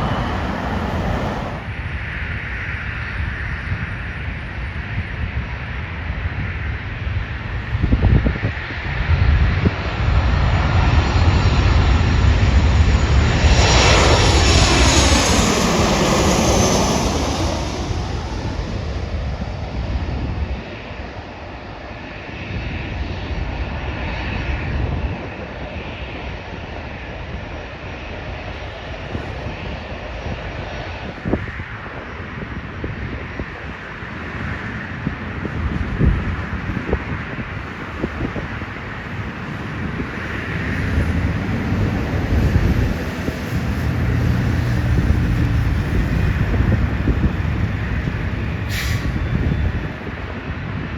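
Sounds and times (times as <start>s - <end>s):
jet airliner passing: 0.0s - 2.0s, 8.6s - 50.9s.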